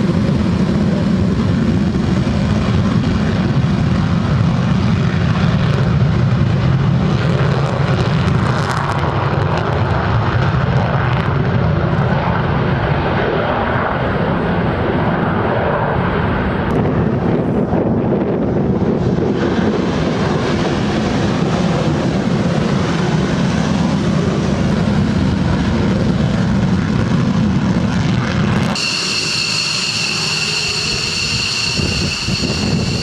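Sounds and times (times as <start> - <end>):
aircraft engine rumble: 0.0 - 33.0.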